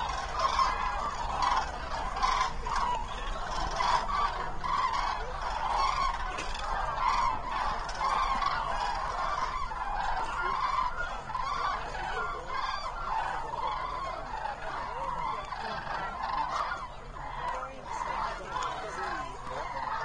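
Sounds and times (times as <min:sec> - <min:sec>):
cranes trumpeting: 0:00.0 - 0:20.0.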